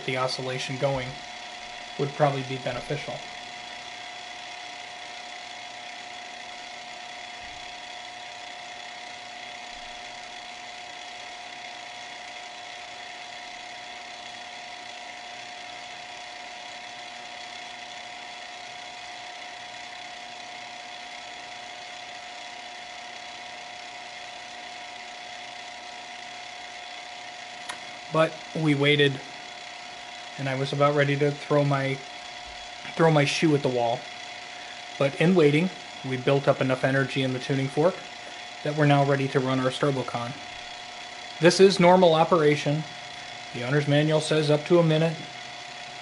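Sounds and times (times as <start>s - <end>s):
motor hum with whining tones: 0.0s - 46.0s.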